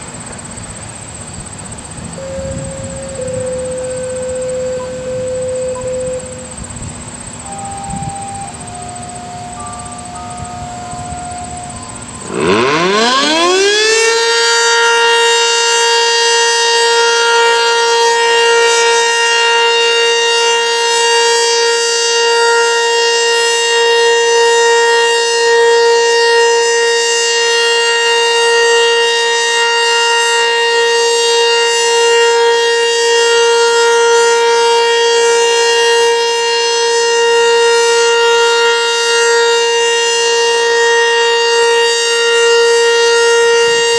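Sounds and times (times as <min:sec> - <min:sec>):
outdoor warning siren steady tone: 0:00.0 - 0:43.9.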